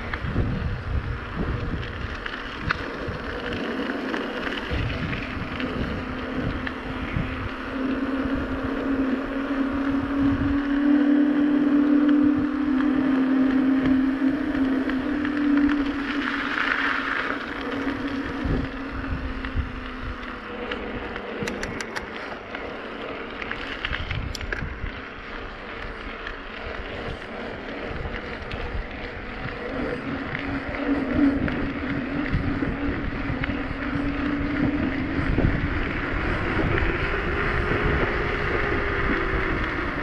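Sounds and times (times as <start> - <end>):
bicycle tyres rolling: 0.0 - 40.0
steady hum: 0.0 - 40.0
wind buffeting microphone: 0.0 - 40.0.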